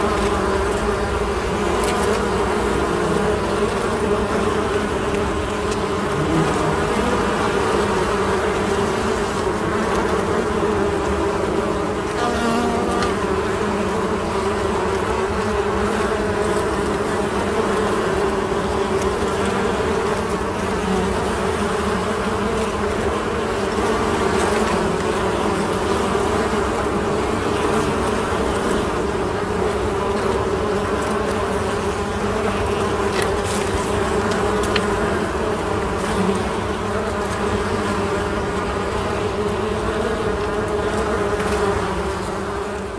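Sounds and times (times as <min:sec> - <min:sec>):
honeybees buzzing: 0:00.0 - 0:42.9.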